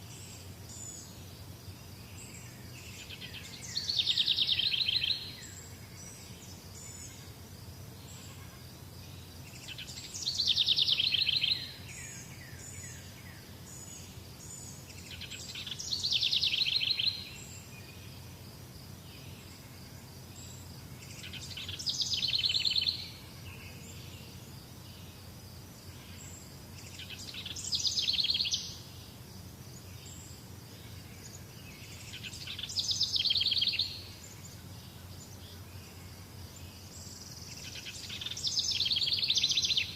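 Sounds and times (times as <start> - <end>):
faint high insect tones: 0.0 - 39.9
low background noise: 0.0 - 39.9
songbird singing: 0.0 - 39.9.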